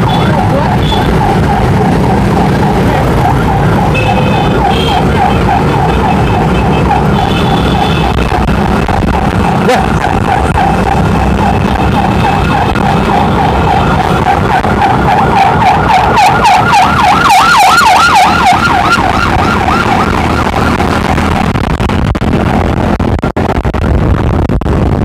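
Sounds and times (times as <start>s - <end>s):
electronic siren wailing and yelping: 0.0s - 22.6s
motorcycle engines droning: 0.0s - 23.6s.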